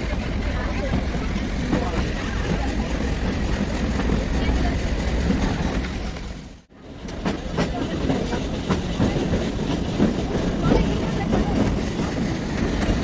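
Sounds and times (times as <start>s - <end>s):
train rumble: 0.0s - 13.0s
train wheels clacking: 0.0s - 13.0s.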